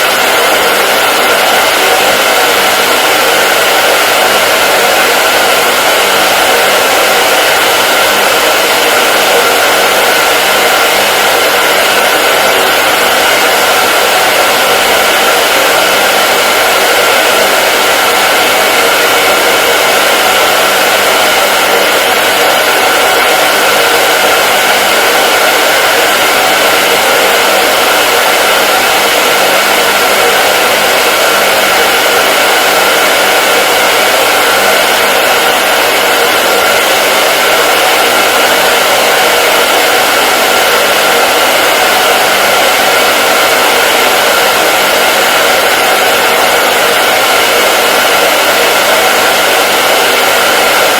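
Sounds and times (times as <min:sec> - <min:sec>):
hair dryer running: 0:00.0 - 0:50.9.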